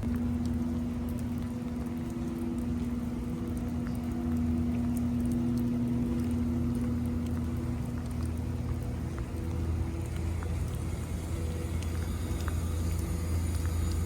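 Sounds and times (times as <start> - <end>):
rain dripping: 0.0 - 14.0
steady mechanical hum: 0.0 - 14.0.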